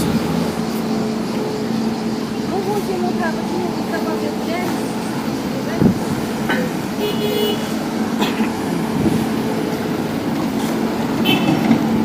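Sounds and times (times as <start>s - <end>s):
traffic engines running and idling: 0.0s - 12.0s.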